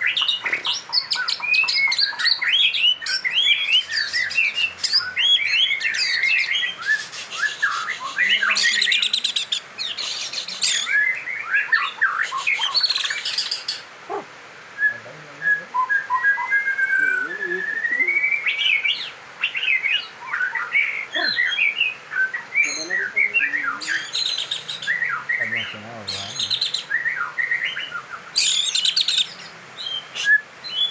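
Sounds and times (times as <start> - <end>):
harsh rattling bird calls: 0.0 - 15.2, 16.1 - 30.9
songbird singing: 0.0 - 30.9.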